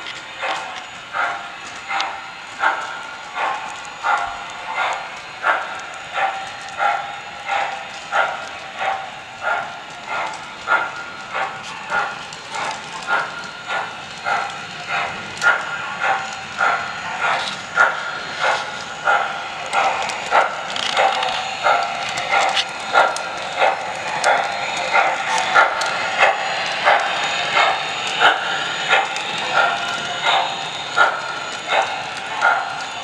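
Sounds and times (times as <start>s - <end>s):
model steam locomotive chuffing: 0.0s - 33.0s
wheels clicking on rails: 0.0s - 33.0s.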